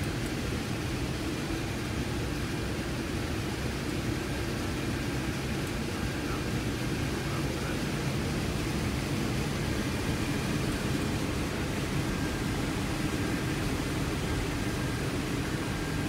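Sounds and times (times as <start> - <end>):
jet engines at taxi power: 0.0 - 16.0.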